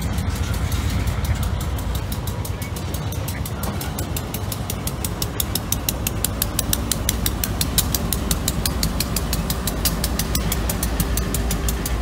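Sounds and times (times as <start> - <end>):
diesel locomotive engine rumble: 0.0 - 12.0
rapid even clicking: 0.0 - 12.0.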